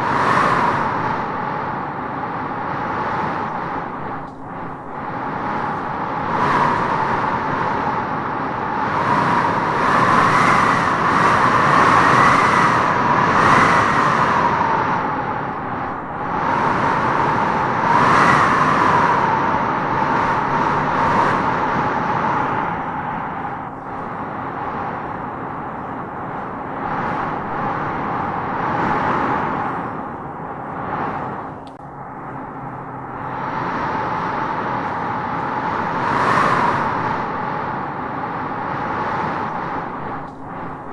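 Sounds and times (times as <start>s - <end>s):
howling wind whistle: 0.0s - 40.9s
wind blowing in gusts: 0.0s - 40.9s.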